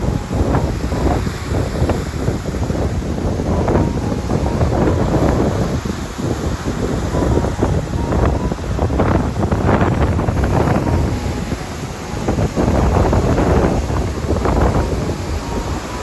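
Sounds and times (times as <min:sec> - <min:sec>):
sea waves washing in: 0:00.0 - 0:16.0
wind gusting on microphone: 0:00.0 - 0:16.0.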